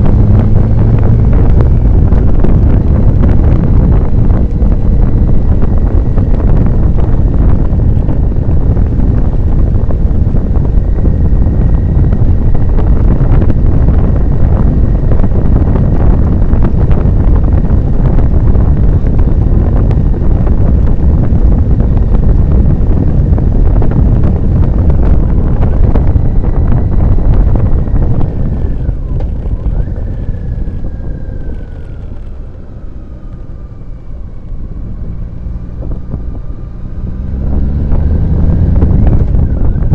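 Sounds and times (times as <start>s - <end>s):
motorcycle engine: 0.0s - 39.9s
wind buffeting microphone: 0.0s - 39.9s.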